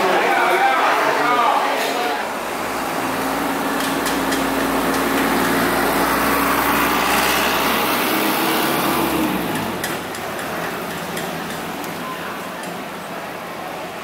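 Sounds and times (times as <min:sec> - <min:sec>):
truck driving past: 0:02.2 - 0:14.0.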